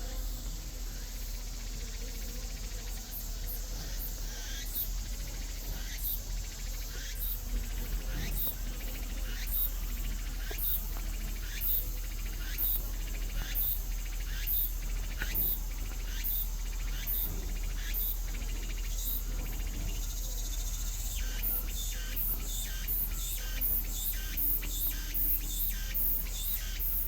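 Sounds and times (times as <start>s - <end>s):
cricket-like insect chirping: 0.0s - 27.0s.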